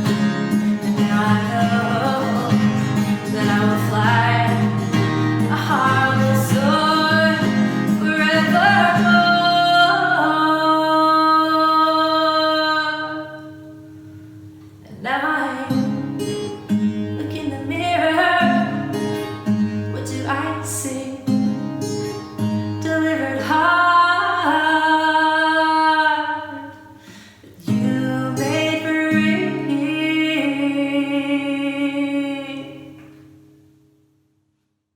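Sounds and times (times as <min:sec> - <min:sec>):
woman singing: 0:00.0 - 0:13.9, 0:14.8 - 0:21.6, 0:22.6 - 0:33.2
acoustic guitar: 0:00.0 - 0:34.8.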